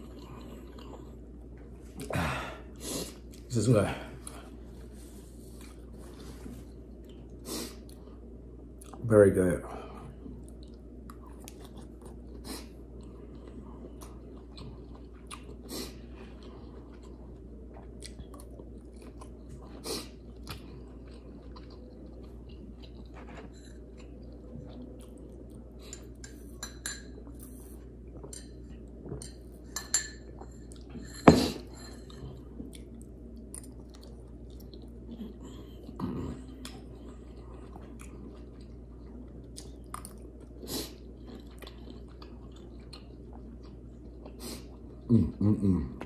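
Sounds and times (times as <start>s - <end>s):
chewing and crunching food: 0.0s - 2.1s, 2.7s - 9.0s, 9.9s - 46.0s.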